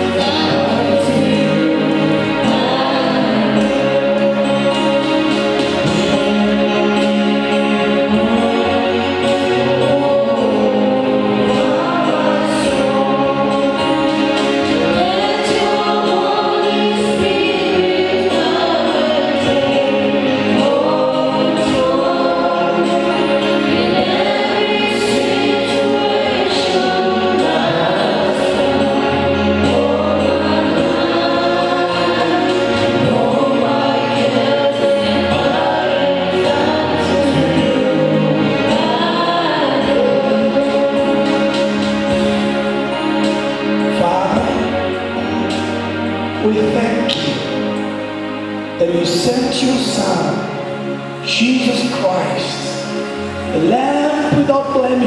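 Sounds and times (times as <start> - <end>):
group of voices singing: 0.0 - 55.0
sustained instrumental chords: 0.0 - 55.0.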